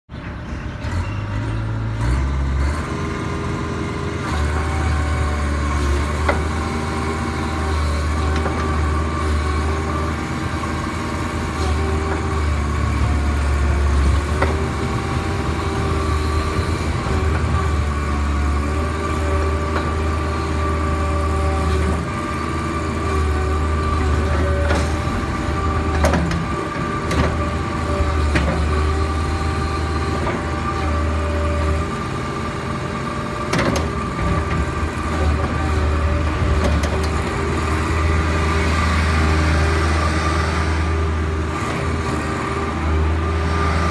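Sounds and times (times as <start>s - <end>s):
excavator diesel engine running: 0.1s - 43.9s.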